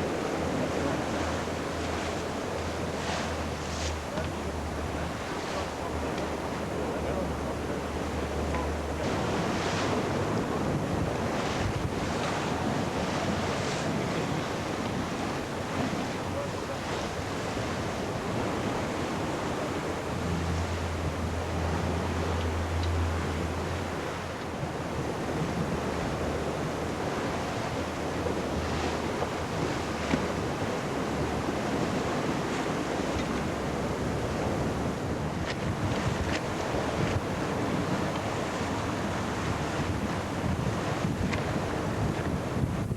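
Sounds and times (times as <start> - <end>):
sea water rushing and splashing: 0.0 - 42.9
wind buffeting microphone: 0.0 - 42.9.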